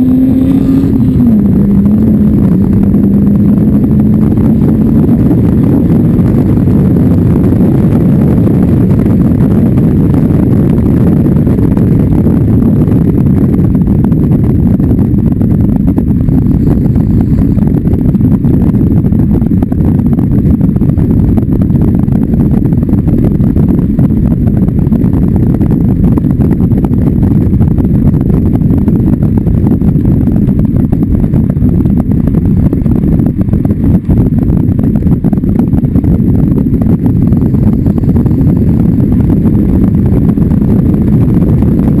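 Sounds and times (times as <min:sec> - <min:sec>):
race car engine at speed: 0:00.0 - 0:42.0
wind buffeting microphone: 0:00.0 - 0:42.0.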